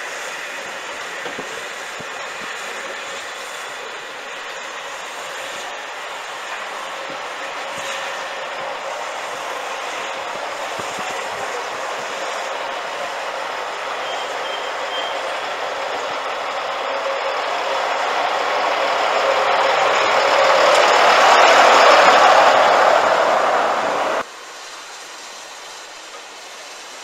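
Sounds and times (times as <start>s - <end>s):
diesel locomotive running: 0.0s - 27.0s.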